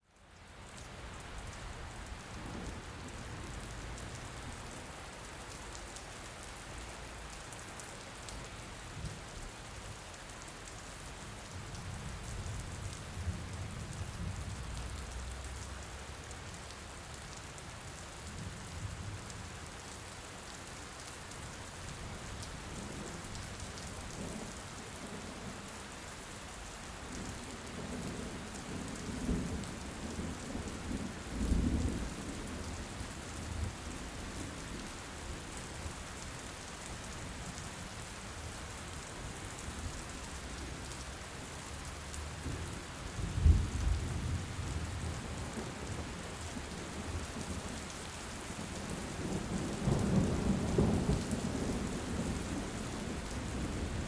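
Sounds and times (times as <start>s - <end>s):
heavy rain falling: 0.1s - 54.0s.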